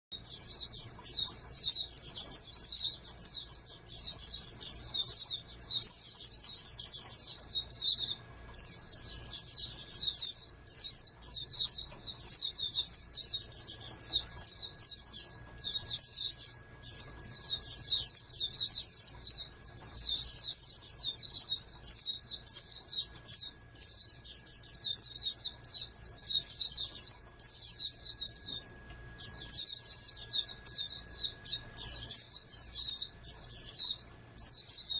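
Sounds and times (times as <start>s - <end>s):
songbird twittering: 0.1s - 34.9s.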